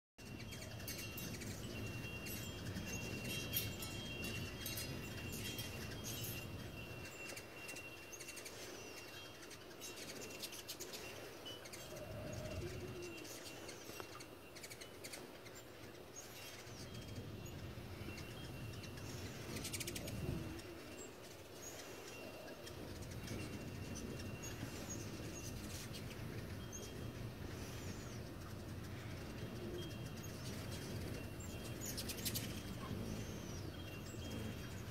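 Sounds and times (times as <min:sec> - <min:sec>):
hummingbirds chipping and chittering: 0:00.2 - 0:34.9.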